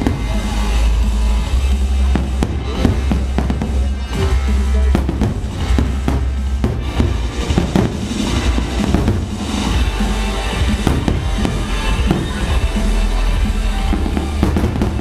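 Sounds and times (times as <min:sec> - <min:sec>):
fireworks bursting: 0:00.0 - 0:15.0
loud music with heavy bass: 0:00.0 - 0:15.0.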